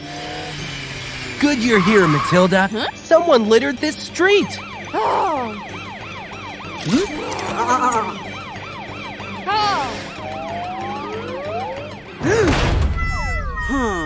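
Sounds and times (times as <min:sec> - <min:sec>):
police siren wailing: 0:00.3 - 0:12.4.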